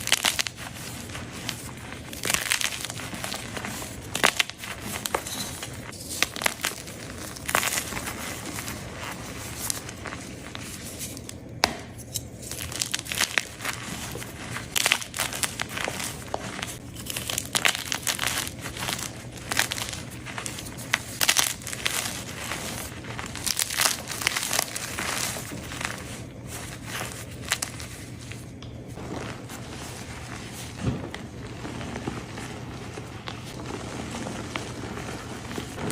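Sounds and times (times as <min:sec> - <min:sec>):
chalk crunching and crackling: 0:00.0 - 0:35.9.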